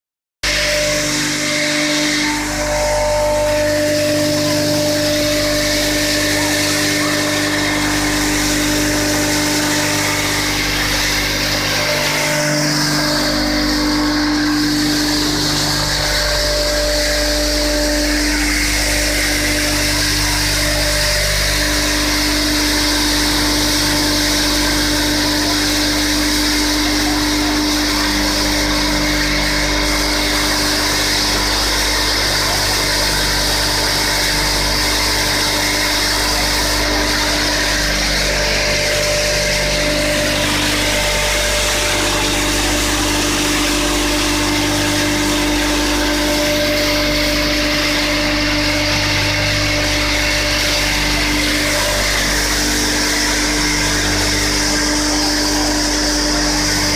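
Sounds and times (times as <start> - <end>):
machine humming with a steady whine: 0.4 - 56.9.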